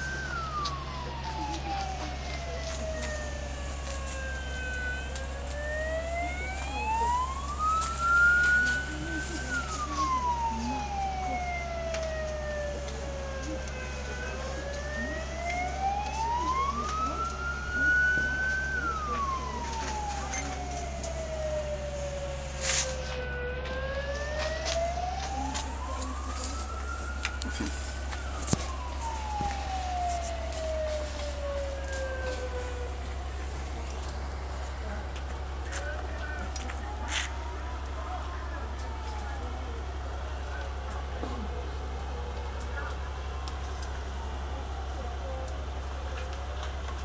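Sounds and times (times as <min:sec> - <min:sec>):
siren wailing: 0:00.0 - 0:40.6
steady low hum: 0:00.0 - 0:47.0.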